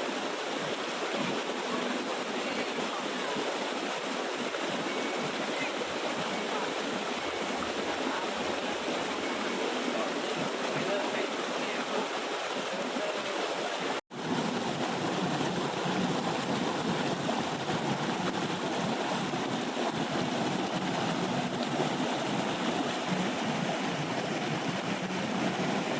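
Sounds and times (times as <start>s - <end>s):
waterfall rushing over rocks: 0.0s - 25.9s.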